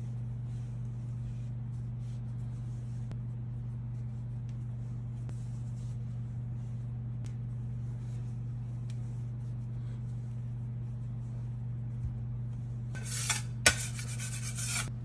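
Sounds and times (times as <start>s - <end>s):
dough rustling: 0.0s - 14.9s
low hum: 0.0s - 15.0s.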